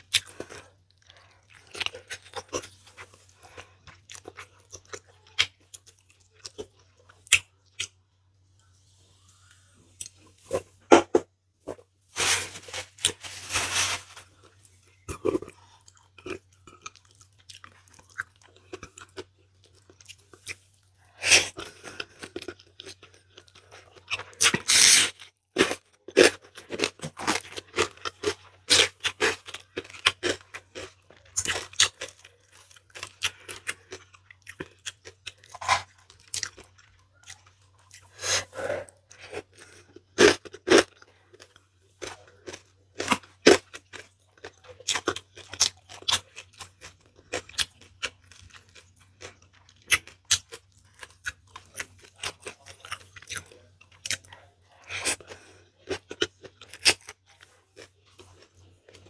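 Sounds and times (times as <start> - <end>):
person chewing wetly: 0.0 - 11.2, 14.2 - 59.0.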